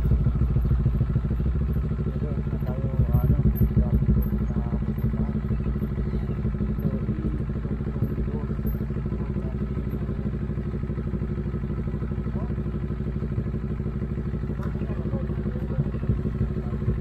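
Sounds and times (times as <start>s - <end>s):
motorcycle engine running low: 0.0s - 17.0s.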